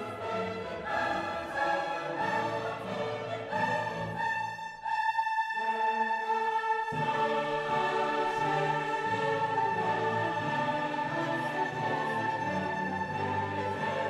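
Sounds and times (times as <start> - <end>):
orchestral choral music: 0.0 - 14.0.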